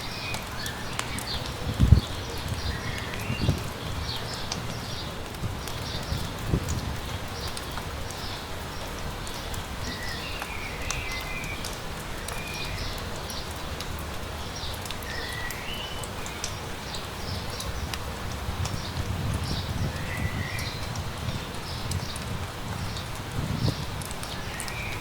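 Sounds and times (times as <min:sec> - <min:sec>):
light rain patter: 0:00.0 - 0:25.0.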